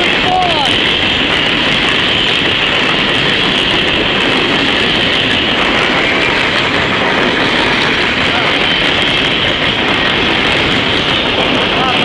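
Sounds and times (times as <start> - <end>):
steel wheels running on rails: 0.0 - 12.0.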